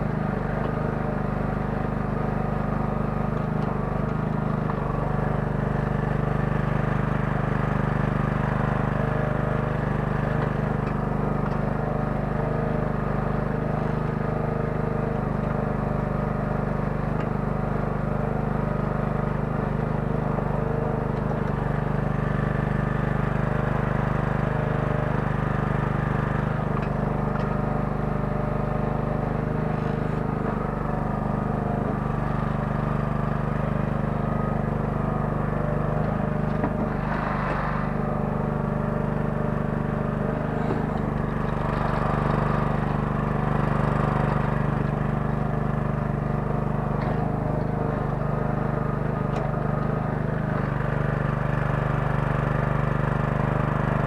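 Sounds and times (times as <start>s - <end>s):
mini excavator engine running: 0.0s - 54.0s.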